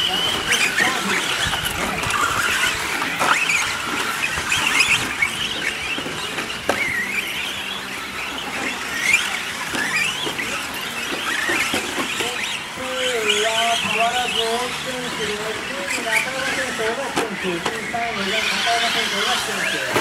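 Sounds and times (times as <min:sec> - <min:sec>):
electric motors whining: 0:00.0 - 0:20.0.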